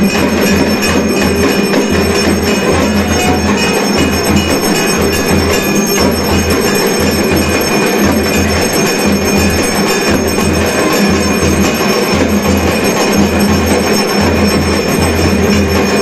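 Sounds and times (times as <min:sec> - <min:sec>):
low drum beat: 0:00.0 - 0:16.0
temple bells ringing: 0:00.0 - 0:16.0.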